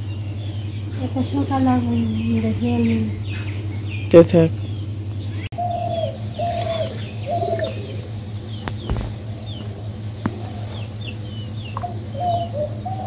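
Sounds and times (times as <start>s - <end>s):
birds cooing: 0.0s - 13.0s
small birds chirping: 0.0s - 13.0s
steady low hum: 0.0s - 13.0s.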